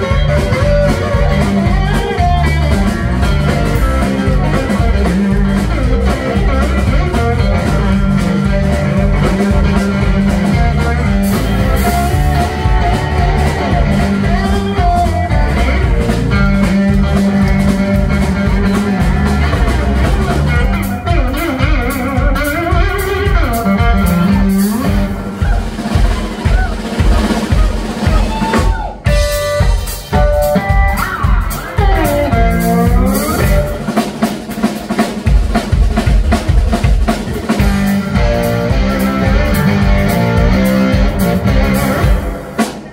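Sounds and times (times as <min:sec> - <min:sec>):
drum kit beat: 0:00.0 - 0:42.9
electric guitar lead: 0:00.0 - 0:42.9.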